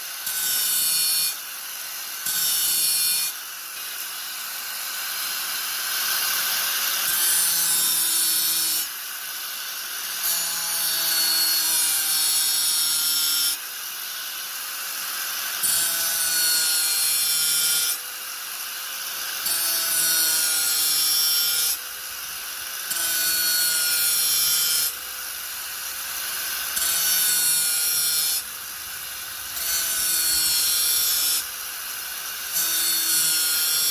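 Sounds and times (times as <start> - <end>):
angle grinder cutting: 0.0 - 33.9.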